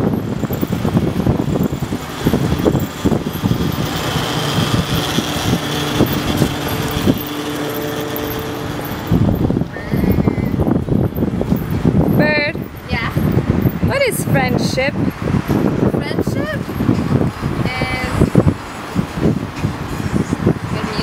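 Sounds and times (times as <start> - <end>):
steady hum: 0.0 - 20.4
cars passing: 0.0 - 21.0.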